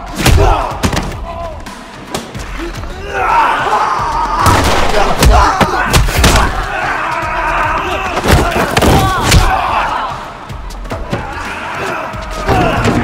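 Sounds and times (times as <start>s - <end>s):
fighters grunting and shouting: 0.0s - 1.8s, 2.5s - 13.0s.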